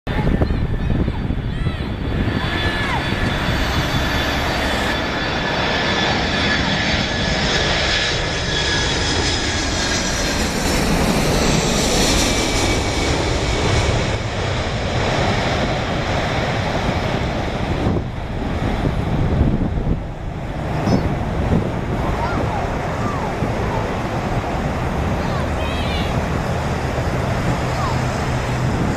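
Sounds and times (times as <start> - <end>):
jet engine roar with fan whine: 0.1 - 28.9.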